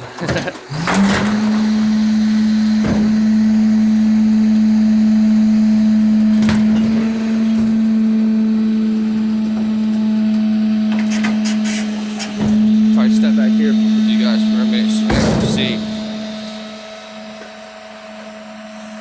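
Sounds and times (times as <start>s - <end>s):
truck engine at high revs: 0.0s - 19.0s.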